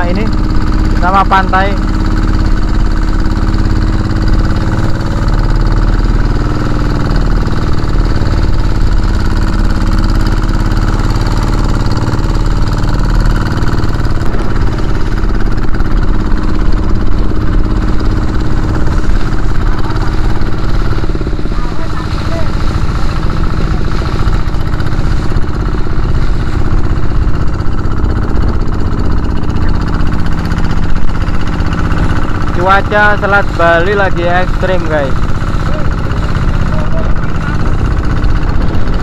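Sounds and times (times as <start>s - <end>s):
waves splashing against hull: 0.0s - 33.8s
boat engine running: 0.0s - 39.0s
wind: 0.0s - 39.0s.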